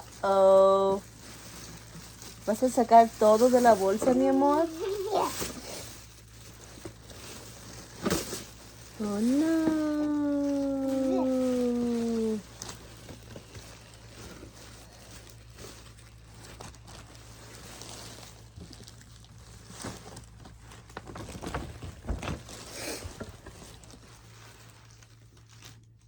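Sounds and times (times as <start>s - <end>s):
items rustling in a bag: 0.0s - 26.0s.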